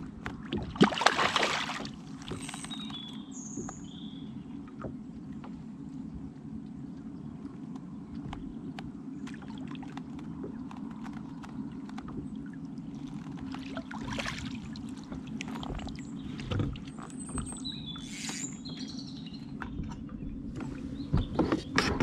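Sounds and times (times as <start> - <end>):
water moving around kayak: 0.0 - 22.0.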